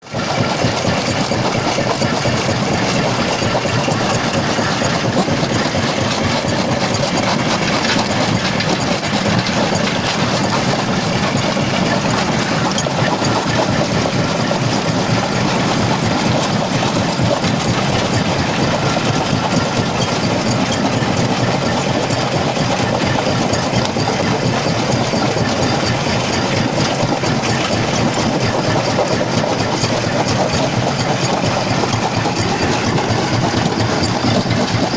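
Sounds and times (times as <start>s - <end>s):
rock crusher clatter and rumble: 0.0s - 34.9s.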